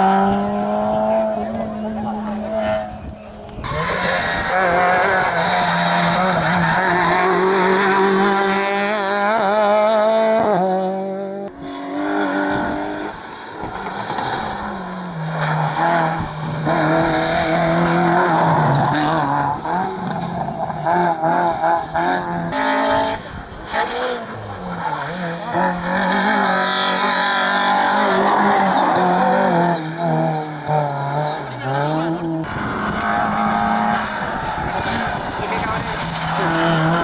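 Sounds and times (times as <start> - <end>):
rally car engines revving: 0.0 - 37.0.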